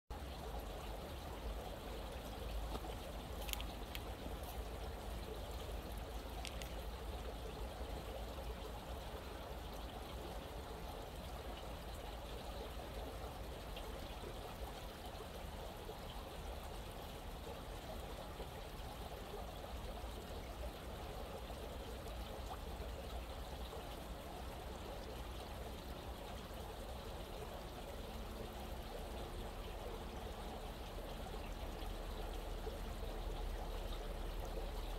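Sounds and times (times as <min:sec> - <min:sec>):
stream water trickling: 0:00.1 - 0:34.9.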